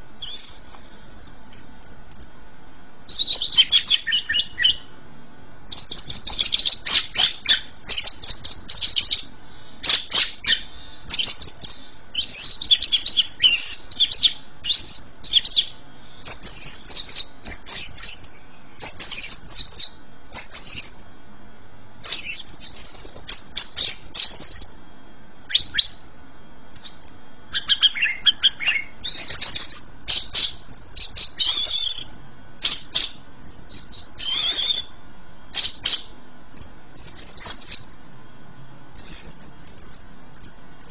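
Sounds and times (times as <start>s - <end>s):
bird singing rapid chirps and warbles: 0.2s - 2.4s, 3.0s - 5.0s, 5.7s - 21.1s, 22.0s - 24.9s, 25.5s - 26.1s, 26.7s - 38.0s, 39.0s - 40.9s.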